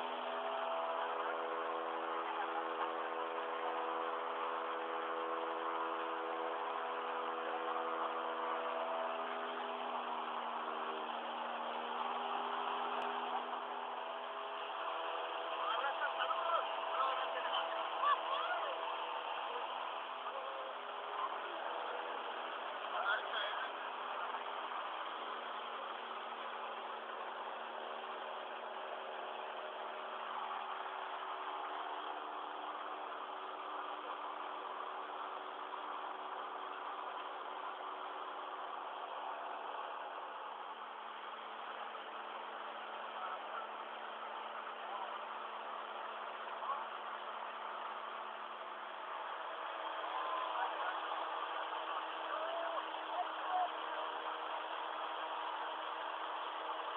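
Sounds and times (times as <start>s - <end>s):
aircraft engine drone in cabin: 0.0s - 56.9s.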